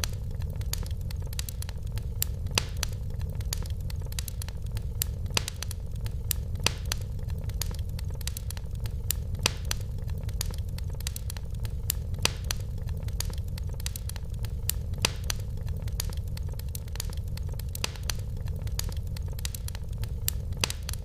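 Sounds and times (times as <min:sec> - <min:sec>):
low rumble of flames: 0:00.0 - 0:21.0
wood fire crackling and popping: 0:00.0 - 0:21.0.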